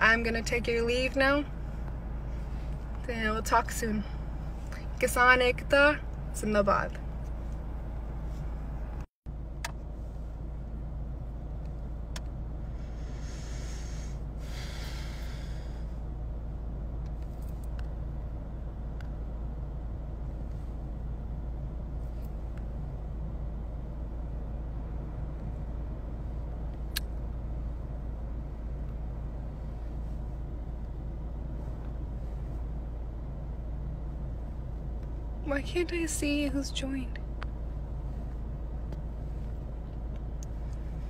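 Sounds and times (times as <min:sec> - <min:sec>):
low rumble with faint hiss: 0:00.0 - 0:41.0.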